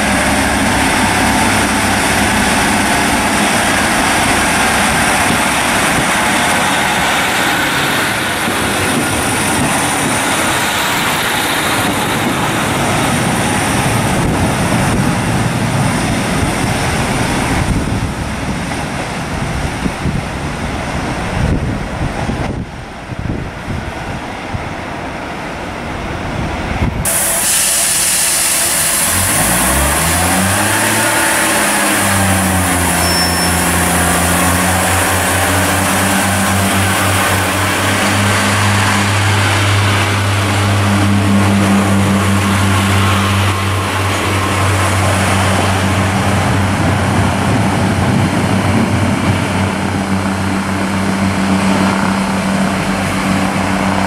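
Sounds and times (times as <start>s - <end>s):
diesel engine droning: 0.0s - 54.0s
distant train approaching: 0.0s - 54.0s
train engines and wheels rumbling: 0.0s - 54.0s.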